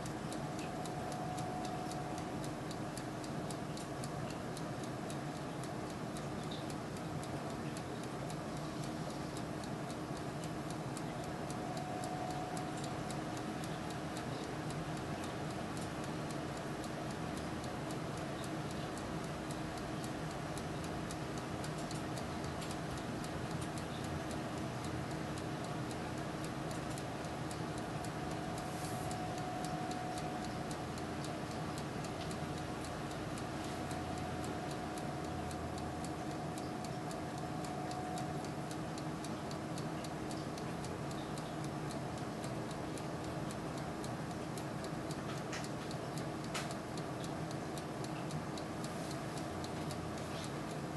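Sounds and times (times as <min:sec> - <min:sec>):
fine ticking: 0:00.0 - 0:50.8
oven fan whirring: 0:00.0 - 0:50.9.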